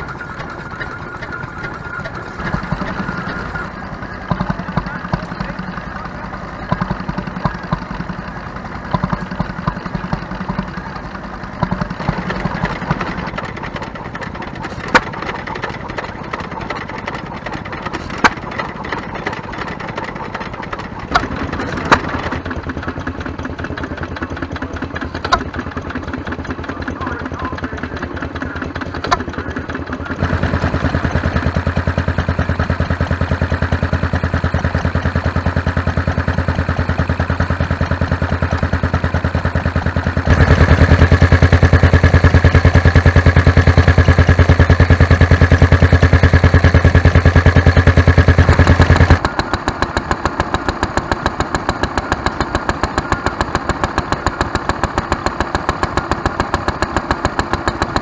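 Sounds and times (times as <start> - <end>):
small stationary engines running: 0.0 - 58.0.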